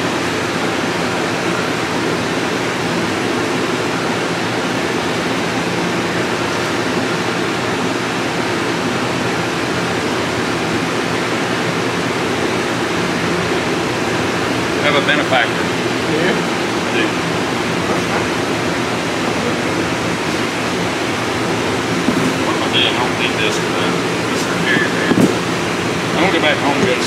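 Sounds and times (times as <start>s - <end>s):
fan running: 0.0s - 27.0s.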